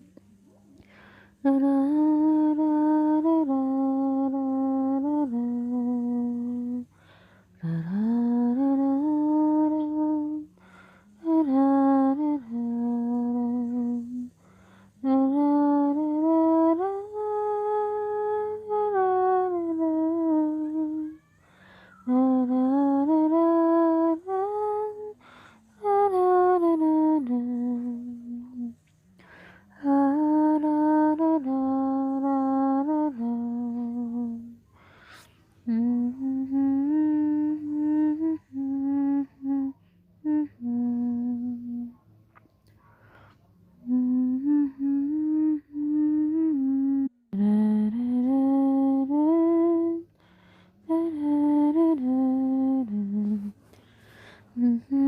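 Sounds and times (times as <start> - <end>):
person humming: 1.4 - 34.9, 35.6 - 42.0, 43.8 - 50.1, 50.8 - 55.0.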